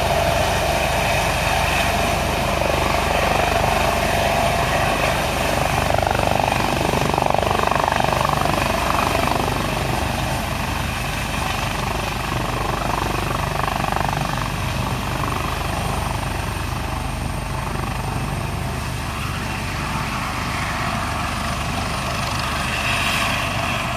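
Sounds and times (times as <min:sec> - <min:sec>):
helicopter rotor beat: 0:00.0 - 0:23.9
turbine whine: 0:00.0 - 0:23.9.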